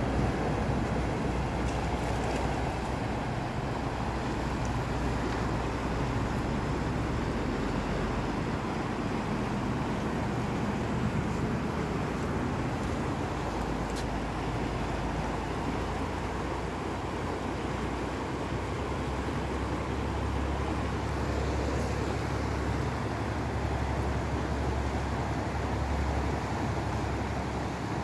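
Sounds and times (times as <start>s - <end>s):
river rushing over rapids: 0.0s - 28.0s.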